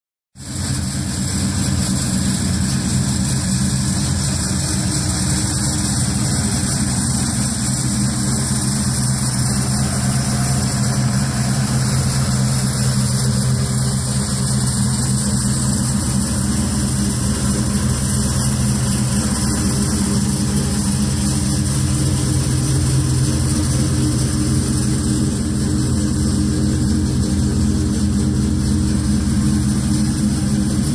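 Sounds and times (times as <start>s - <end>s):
truck engine idling: 0.4s - 30.9s.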